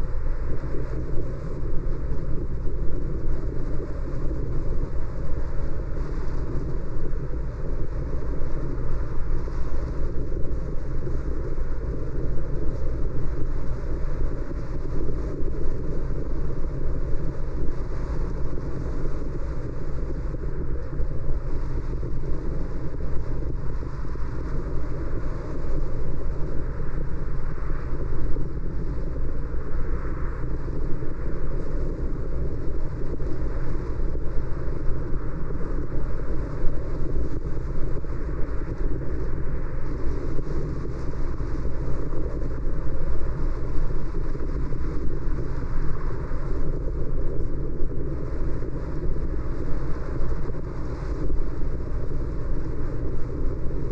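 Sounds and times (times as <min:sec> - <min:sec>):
wind noise: 0:00.0 - 0:53.9.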